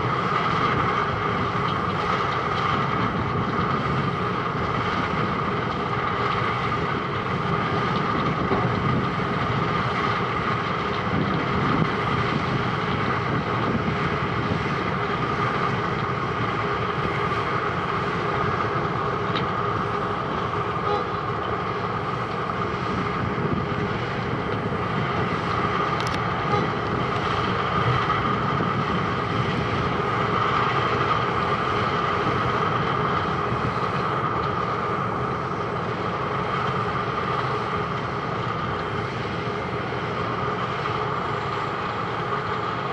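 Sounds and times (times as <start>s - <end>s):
heavy machine noise with whine: 0.0s - 42.9s.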